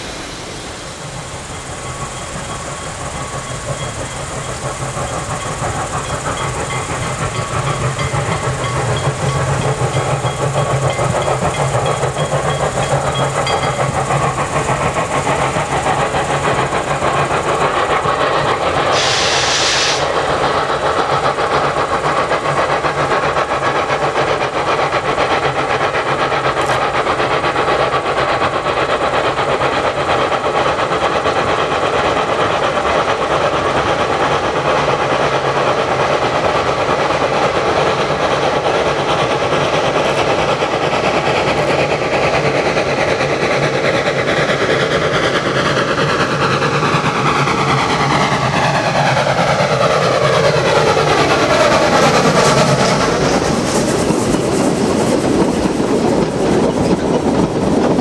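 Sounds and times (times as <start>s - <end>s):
steam locomotive working: 0.0s - 58.0s.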